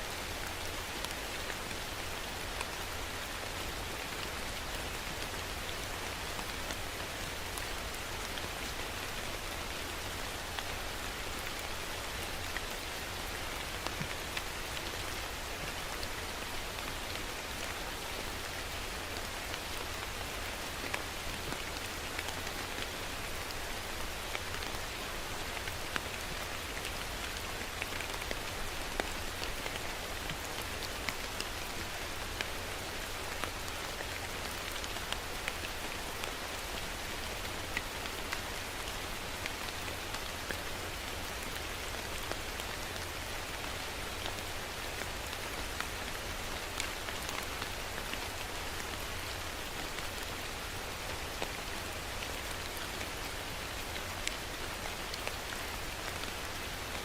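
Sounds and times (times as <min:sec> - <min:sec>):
steady rain hiss: 0:00.0 - 0:57.0
raindrops ticking on a surface: 0:00.1 - 0:57.0.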